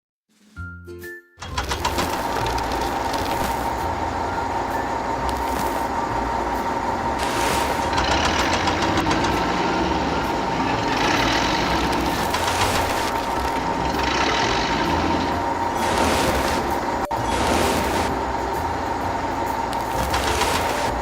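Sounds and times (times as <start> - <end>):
small motor whining: 1.8 - 19.0, 19.7 - 21.0.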